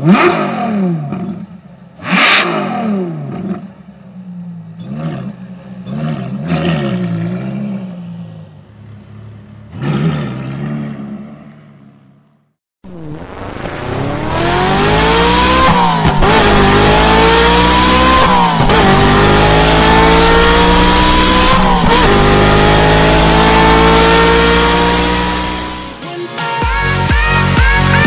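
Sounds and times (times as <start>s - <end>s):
sports car engine accelerating: 0.0s - 12.2s, 13.0s - 26.0s.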